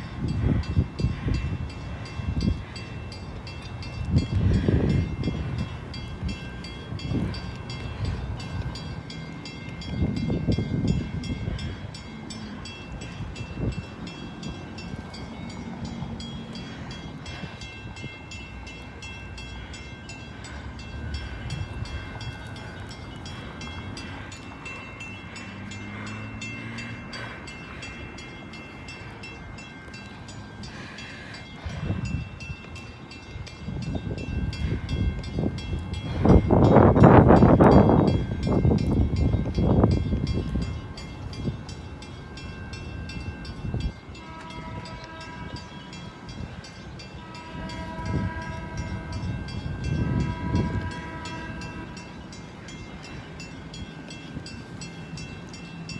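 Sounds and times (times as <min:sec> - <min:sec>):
warning bell ringing: 0:00.7 - 0:55.9.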